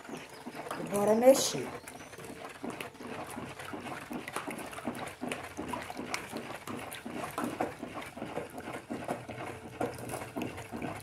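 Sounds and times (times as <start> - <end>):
stick stirring liquid in bucket: 0.0 - 11.0.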